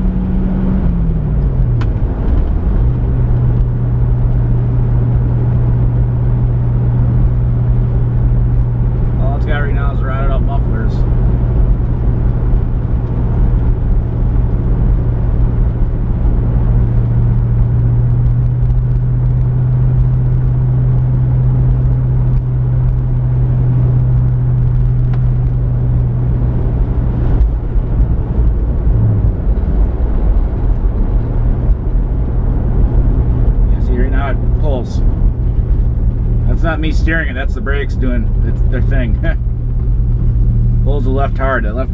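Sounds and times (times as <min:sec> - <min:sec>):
car engine and exhaust droning: 0:00.0 - 0:41.9
road noise: 0:00.0 - 0:41.9.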